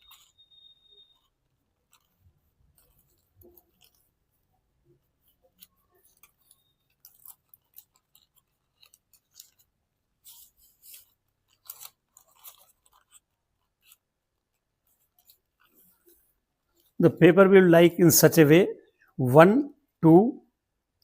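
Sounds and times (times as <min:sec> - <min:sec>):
paper being folded: 0:00.0 - 0:17.0.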